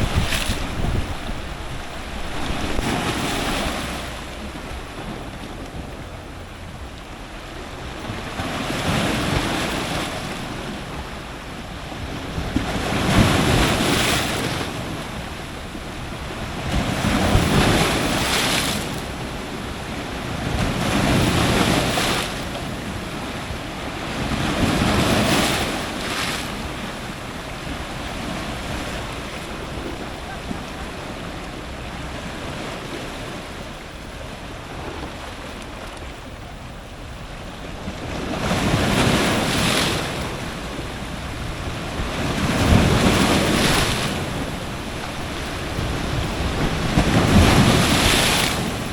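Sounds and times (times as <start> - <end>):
ocean surf breaking: 0.0 - 48.9.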